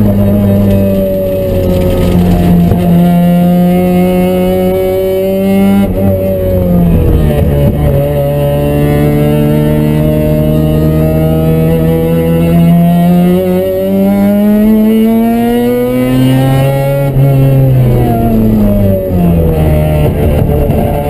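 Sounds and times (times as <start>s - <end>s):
rotary engine accelerating: 0.0s - 21.0s.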